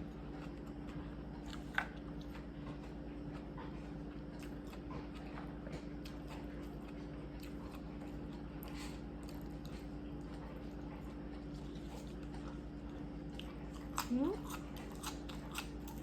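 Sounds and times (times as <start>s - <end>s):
chewing and biting food: 0.0s - 16.0s.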